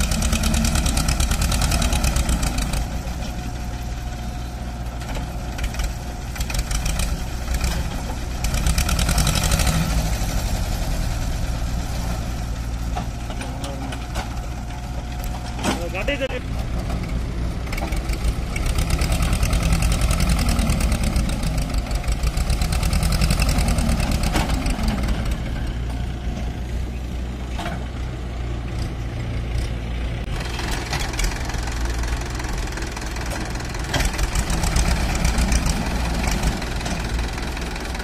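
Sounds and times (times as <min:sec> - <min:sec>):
tractor diesel engine knocking: 0:00.0 - 0:38.0.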